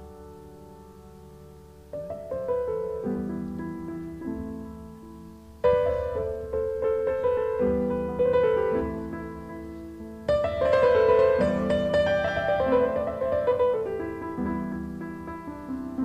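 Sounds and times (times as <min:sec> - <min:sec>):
piano chords and melody: 0:00.0 - 0:16.0.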